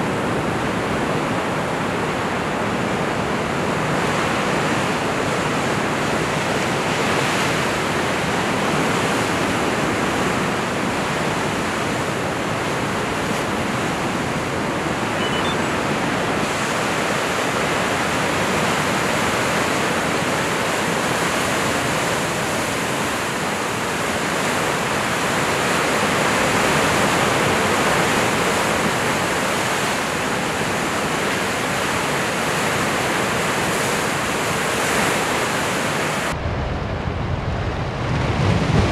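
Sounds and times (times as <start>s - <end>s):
sea surf washing against rocks: 0.0s - 36.4s.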